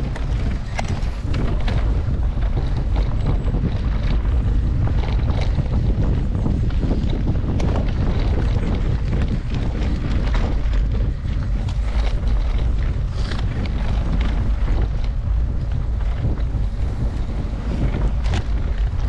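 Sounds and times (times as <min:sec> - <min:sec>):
bike knocking and rattling: 0:00.0 - 0:19.0
wind buffeting microphone: 0:00.0 - 0:19.0.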